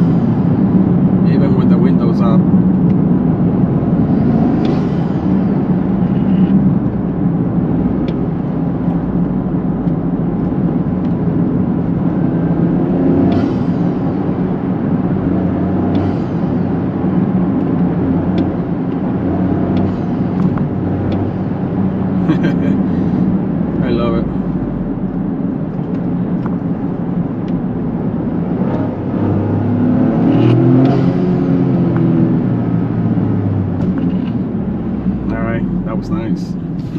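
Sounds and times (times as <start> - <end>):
car engine drone inside cabin: 0.0 - 36.9.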